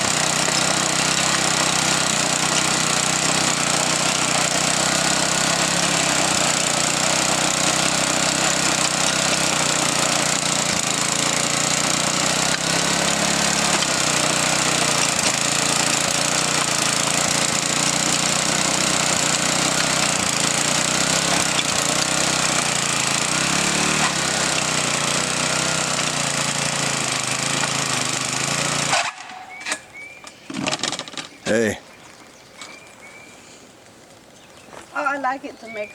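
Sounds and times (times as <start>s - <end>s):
tiller engine running: 0.0s - 29.8s.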